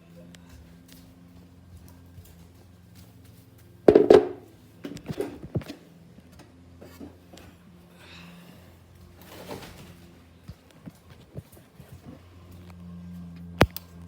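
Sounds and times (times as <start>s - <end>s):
ceiling fan motor humming: 0.0s - 14.0s.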